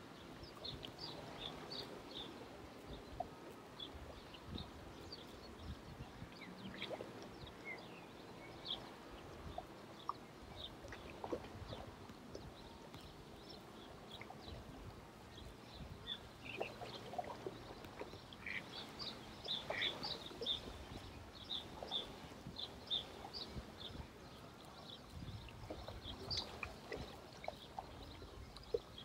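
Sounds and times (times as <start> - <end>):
small birds chirping: 0.2 - 29.0.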